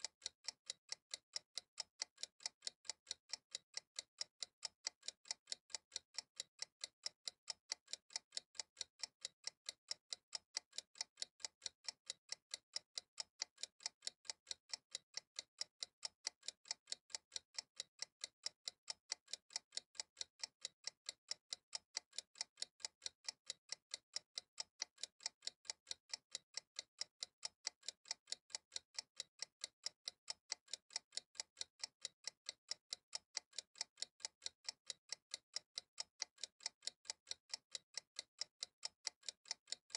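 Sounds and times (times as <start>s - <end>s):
timer ticking: 0.0s - 39.9s.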